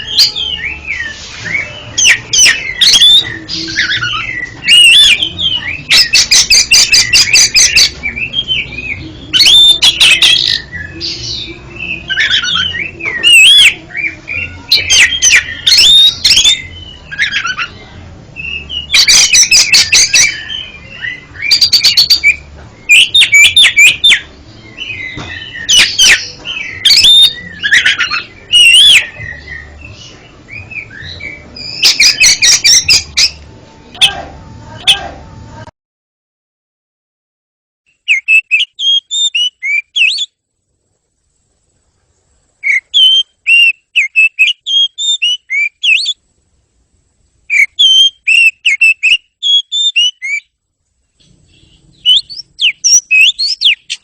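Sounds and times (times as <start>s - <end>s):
songbird singing varied song: 0.0s - 34.2s, 37.9s - 54.0s.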